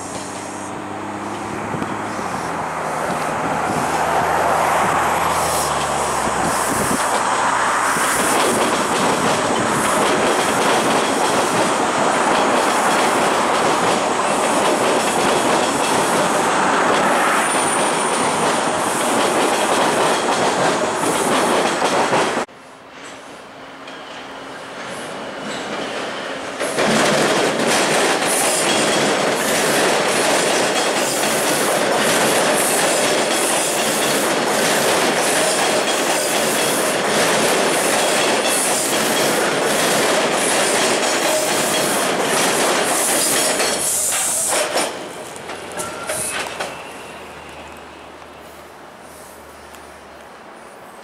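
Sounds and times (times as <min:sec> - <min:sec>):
train wheels clattering on rails: 0:01.2 - 0:47.8.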